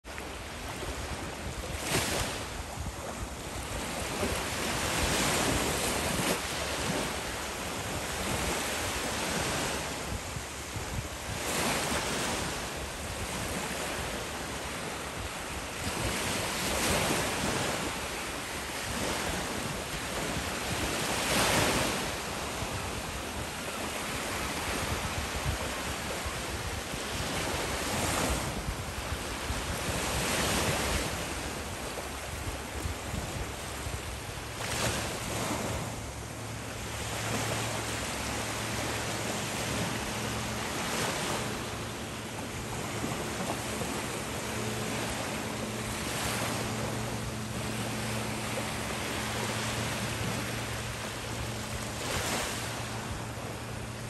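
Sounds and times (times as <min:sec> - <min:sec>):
small waves washing on shore: 0:00.0 - 0:54.0
wind rumbling on microphone: 0:00.0 - 0:54.0.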